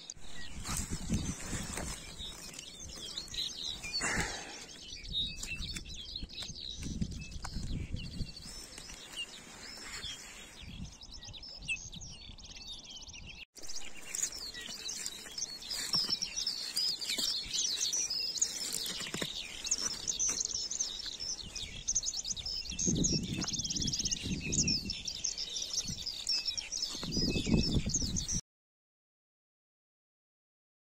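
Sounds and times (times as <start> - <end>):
songbirds chirping and trilling: 0.0 - 28.4.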